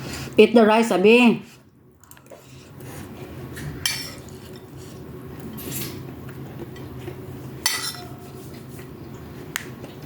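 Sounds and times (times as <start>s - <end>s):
low steady background hum: 0.0s - 10.0s.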